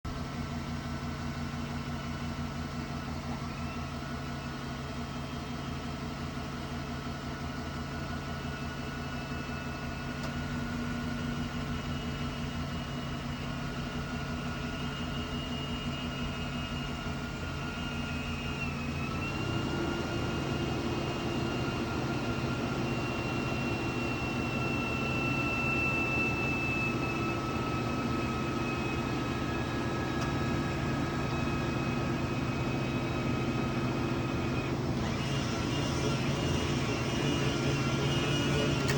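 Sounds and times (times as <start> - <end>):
low mechanical hum: 0.1 - 38.9
thin motor whine: 1.6 - 38.9.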